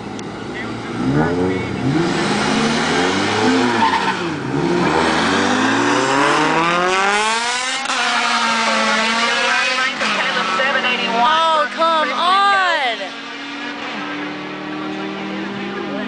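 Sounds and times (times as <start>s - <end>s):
drag race car engines: 0.0s - 16.0s.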